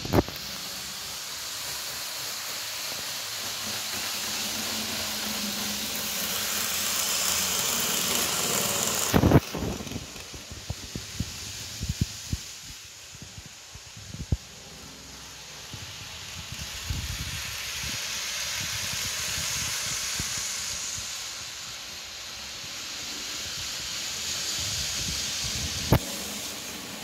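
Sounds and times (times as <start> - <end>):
model trains running on track: 0.0 - 27.0.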